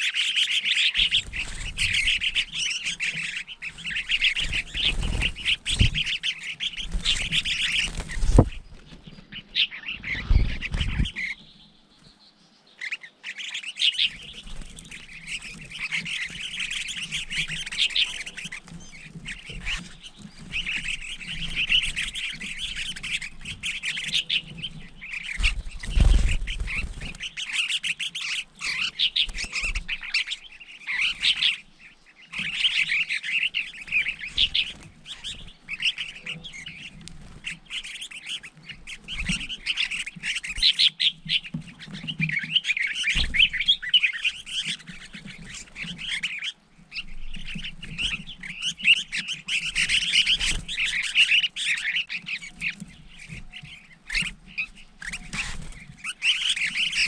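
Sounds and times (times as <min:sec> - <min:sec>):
birds chattering and chirping: 0:00.0 - 0:57.0.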